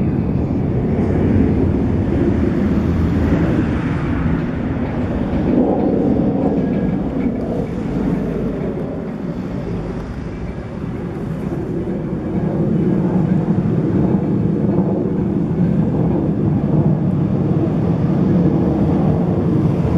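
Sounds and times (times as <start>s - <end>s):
low rumbling noise: 0.0s - 19.9s.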